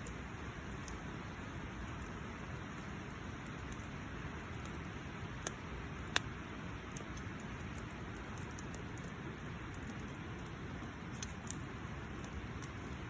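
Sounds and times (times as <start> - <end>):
burning wood popping: 0.0 - 13.0
campfire hissing and crackling: 0.0 - 13.0.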